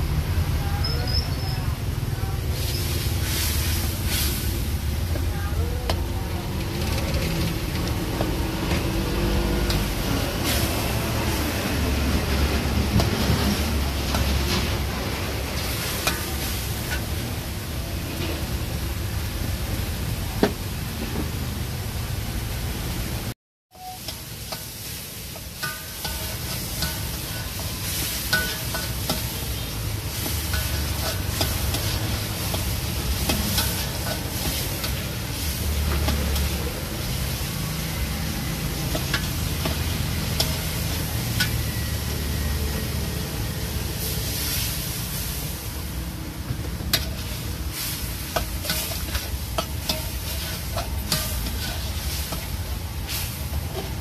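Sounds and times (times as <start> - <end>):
food sizzling: 0.0 - 54.0
metal spatula scraping wok: 2.4 - 18.8, 23.8 - 54.0.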